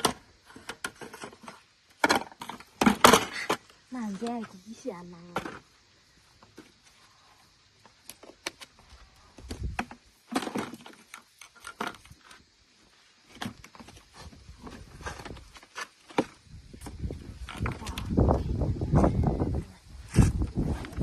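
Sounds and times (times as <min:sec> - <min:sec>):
rustling and scraping: 0:00.0 - 0:21.0.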